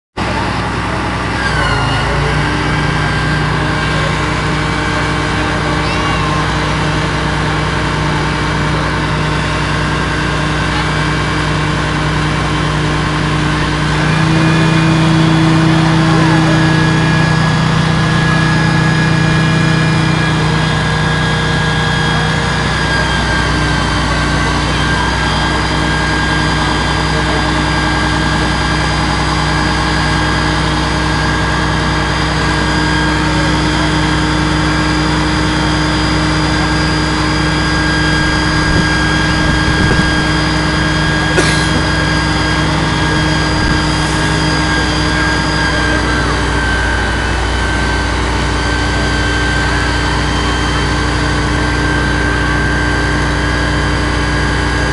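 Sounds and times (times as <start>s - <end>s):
diesel engine running: 0.1s - 54.9s
high whine: 0.2s - 54.9s.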